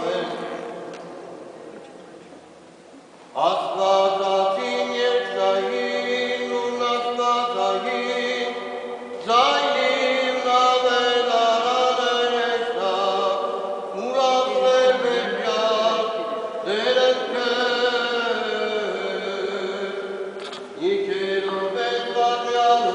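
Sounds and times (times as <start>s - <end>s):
man chanting: 0.0s - 0.8s, 3.4s - 22.9s.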